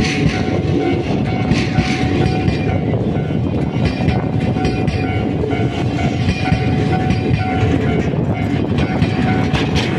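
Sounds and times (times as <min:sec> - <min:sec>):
diesel locomotive passing: 0:00.0 - 0:09.9
train wheels rumbling on rails: 0:00.0 - 0:09.9.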